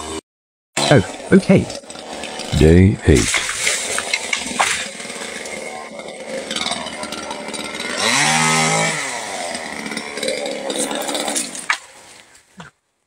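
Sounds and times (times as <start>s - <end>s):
chainsaw revving: 0.0s - 0.2s, 0.8s - 12.2s.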